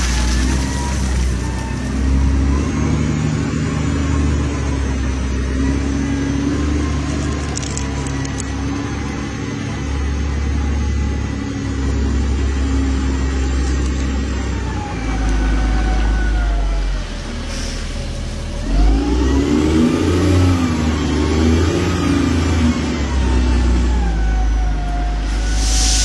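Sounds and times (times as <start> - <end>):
diesel engine revving under load: 0.0 - 26.0.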